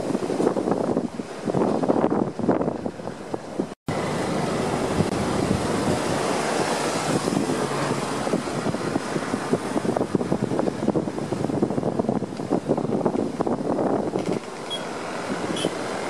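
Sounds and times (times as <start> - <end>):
road traffic: 0.0 - 16.0
wind on microphone: 0.0 - 16.0.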